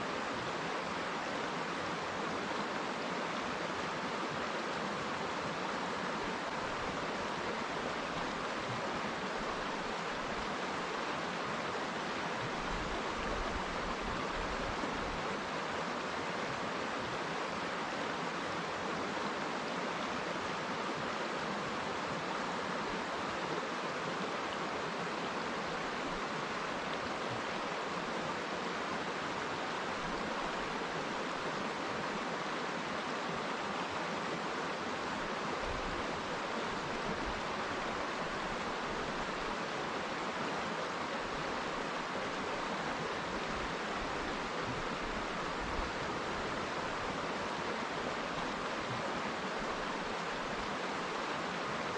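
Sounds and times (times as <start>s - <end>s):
river water flowing over rocks: 0.0s - 51.9s.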